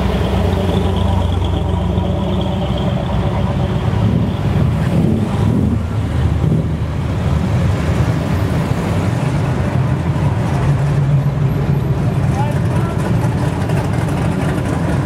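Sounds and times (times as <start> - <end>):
cars driving past slowly: 0.0 - 15.0
deep car engines running: 0.0 - 15.0.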